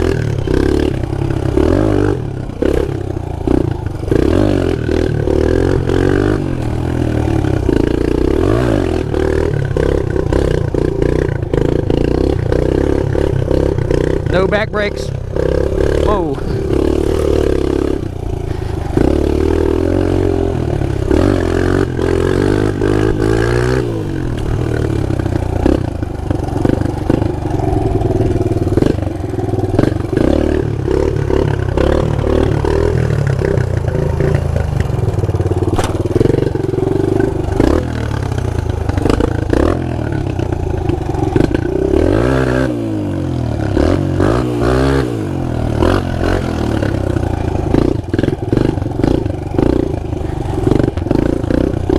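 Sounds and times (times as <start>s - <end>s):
pit bike engine revving: 0.0s - 51.9s.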